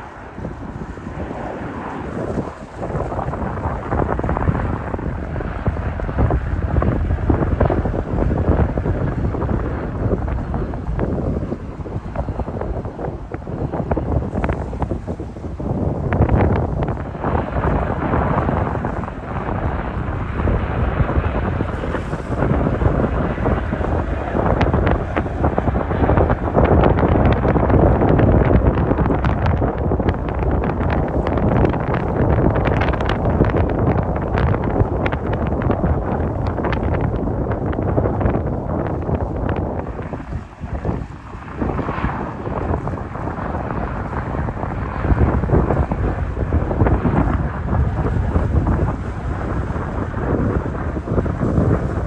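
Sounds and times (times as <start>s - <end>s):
strong wind buffeting microphone: 0.0s - 52.0s.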